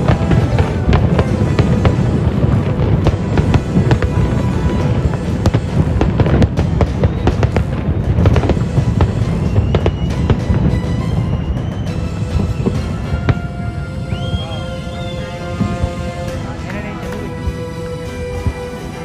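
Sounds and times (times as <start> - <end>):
fireworks bangs and crackles: 0.0 - 19.0
music playing: 0.0 - 19.0.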